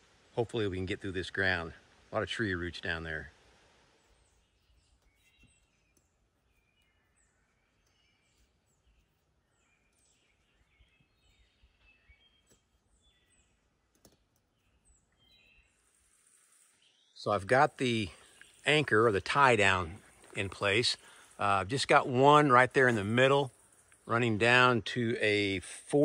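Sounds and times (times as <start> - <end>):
songbird chirps: 0.0 - 26.0.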